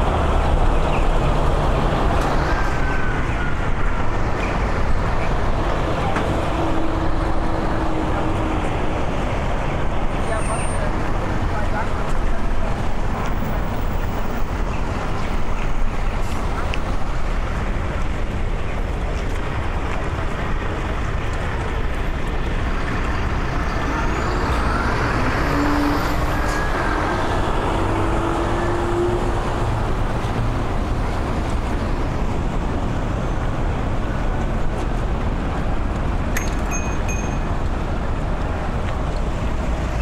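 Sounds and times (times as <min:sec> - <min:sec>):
city traffic rumble: 0:00.0 - 0:40.0.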